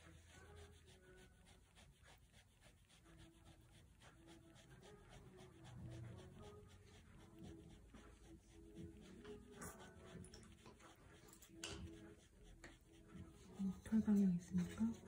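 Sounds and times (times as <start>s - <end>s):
fine-tip pen scratching on paper: 0.0s - 15.0s.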